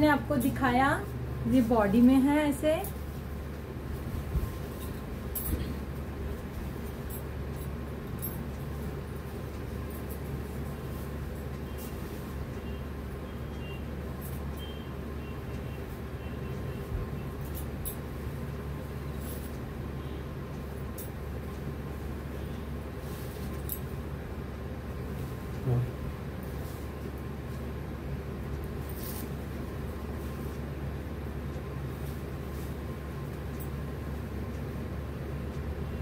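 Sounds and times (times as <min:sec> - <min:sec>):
air conditioner humming: 0:00.0 - 0:36.0.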